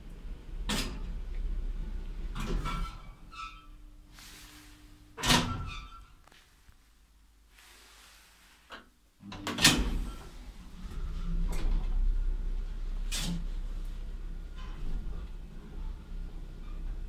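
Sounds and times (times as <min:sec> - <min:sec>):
low hum of lift running: 0:00.0 - 0:06.4, 0:09.2 - 0:17.0.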